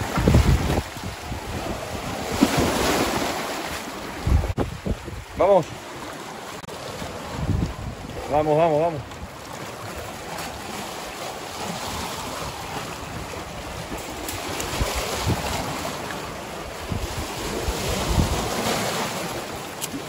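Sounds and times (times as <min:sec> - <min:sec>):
wind blowing across microphone: 0:00.0 - 0:03.3, 0:04.0 - 0:05.8, 0:07.0 - 0:10.7, 0:11.6 - 0:19.5
water washing against rocky shore: 0:00.0 - 0:20.0.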